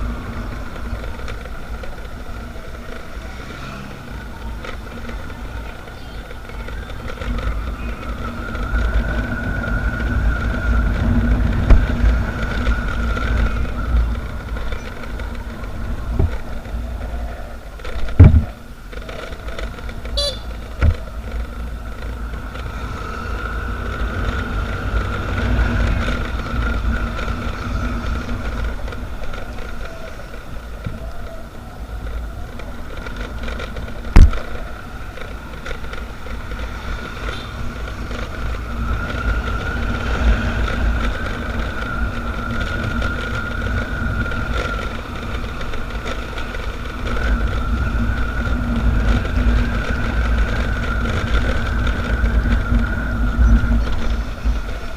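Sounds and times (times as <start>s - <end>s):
motorcycle engine and road noise: 0.0s - 54.9s
wind rumble on microphone: 0.0s - 54.9s.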